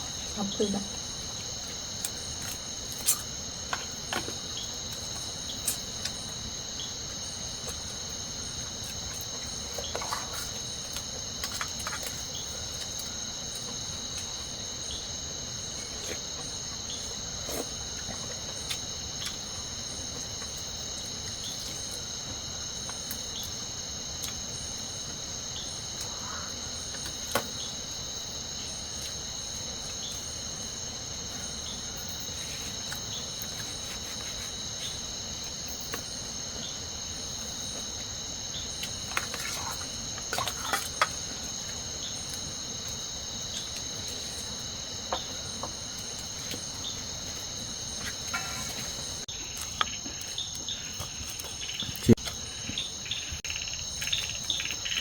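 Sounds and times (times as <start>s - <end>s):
crickets chirring: 0.0s - 55.0s.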